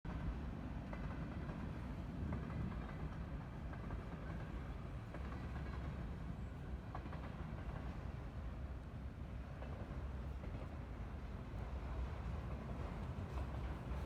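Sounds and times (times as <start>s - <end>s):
freight train rumbling on rails: 0.1s - 14.0s.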